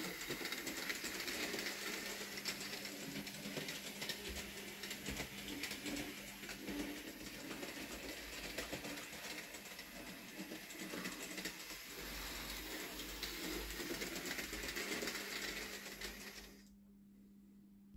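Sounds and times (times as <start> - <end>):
wheels clicking over rail joints: 0.0 - 16.5
small electric motor whir: 0.0 - 16.6.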